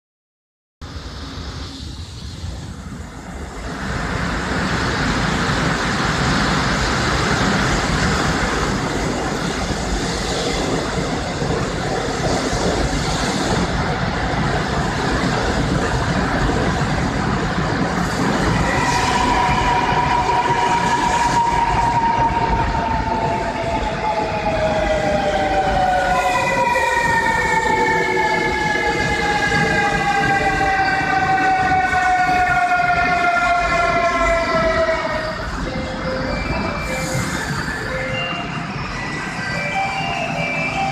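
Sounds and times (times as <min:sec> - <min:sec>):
subway train running: 0:00.8 - 0:40.9.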